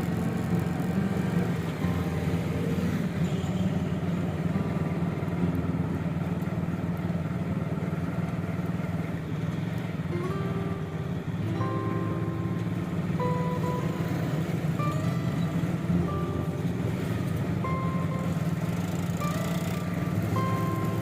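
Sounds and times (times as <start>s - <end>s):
street traffic noise: 0.0s - 21.0s
vehicle engine hum: 0.0s - 21.0s.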